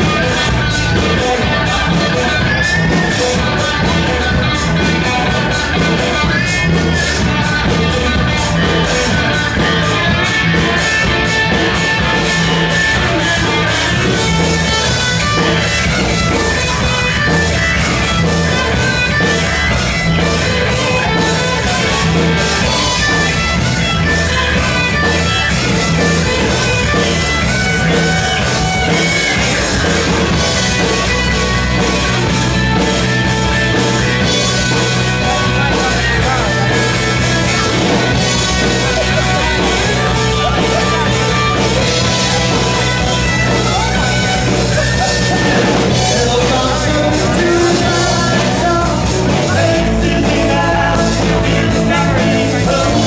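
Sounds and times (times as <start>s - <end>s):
bass guitar: 0.0s - 53.0s
drum kit steady beat: 0.0s - 53.0s
electric guitar lead line: 0.0s - 53.0s.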